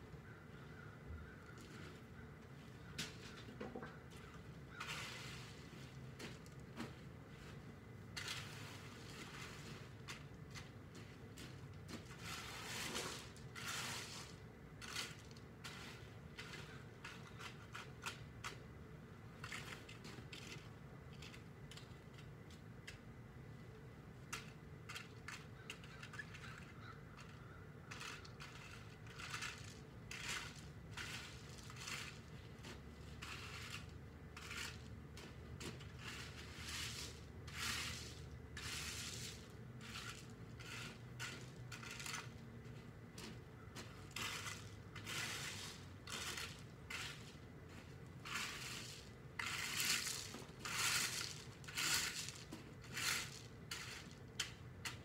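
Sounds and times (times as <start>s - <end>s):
gravel raked and shovelled: 0.2s - 3.5s, 4.1s - 22.4s, 24.0s - 55.0s.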